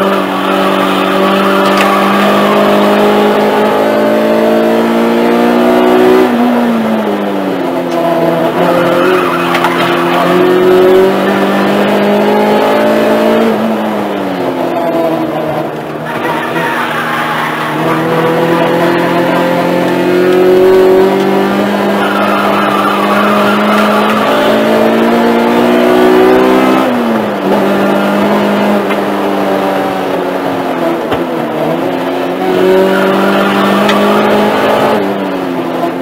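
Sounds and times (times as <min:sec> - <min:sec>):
race car engine from inside: 0:00.0 - 0:36.0
road and wind noise: 0:00.0 - 0:36.0.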